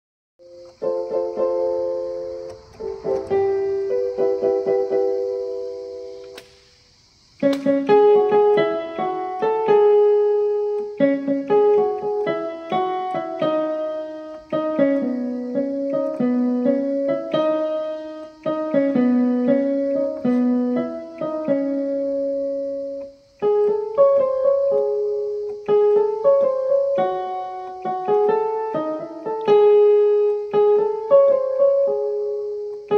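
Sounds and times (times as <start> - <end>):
solo piano melody: 0.4 - 32.9.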